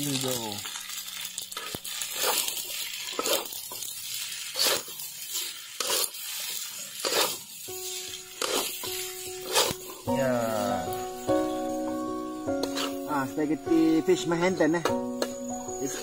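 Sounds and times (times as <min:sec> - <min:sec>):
metal utensils scraping a wok: 0:00.7 - 0:14.2, 0:14.8 - 0:16.0.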